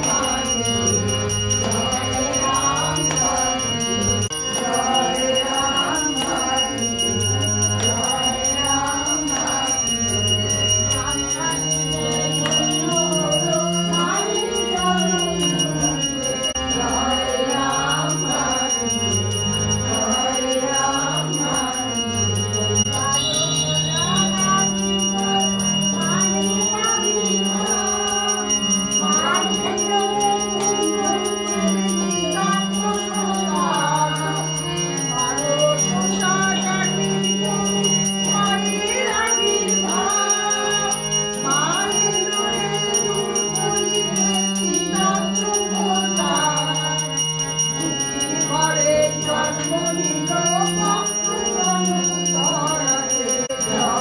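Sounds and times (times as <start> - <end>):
devotional music: 0.0 - 54.0
hand bell ringing: 0.0 - 54.0.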